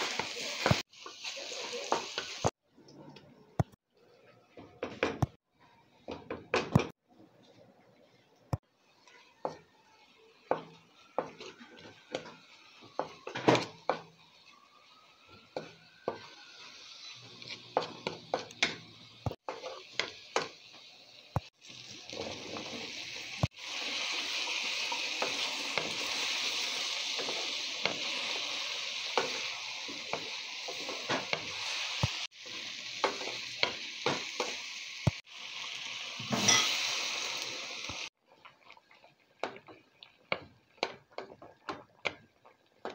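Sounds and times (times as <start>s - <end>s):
food sizzling in hot oil: 0.0s - 2.6s, 8.6s - 42.9s.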